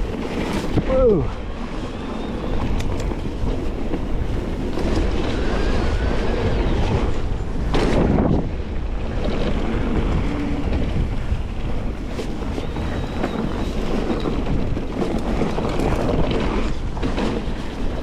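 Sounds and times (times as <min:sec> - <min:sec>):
bike tyres rumbling over trail: 0:00.0 - 0:18.0
wind buffeting microphone: 0:00.0 - 0:18.0.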